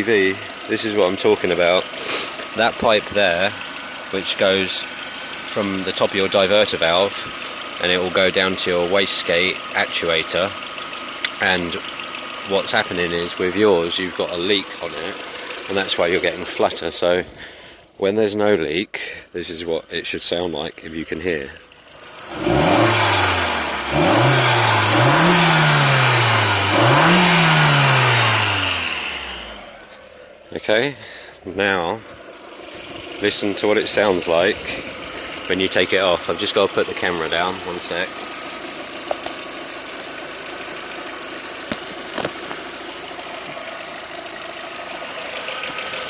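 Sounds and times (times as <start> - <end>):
car engine revving: 0.0 - 17.4, 21.9 - 30.3, 32.0 - 46.0.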